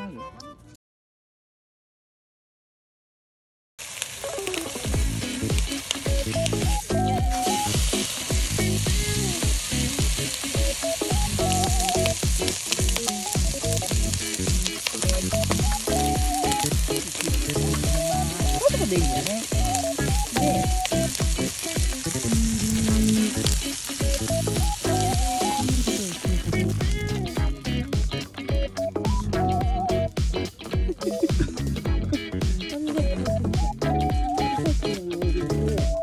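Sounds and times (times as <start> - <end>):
bacon sizzling in pan: 3.8 - 33.2
background music: 4.5 - 36.0.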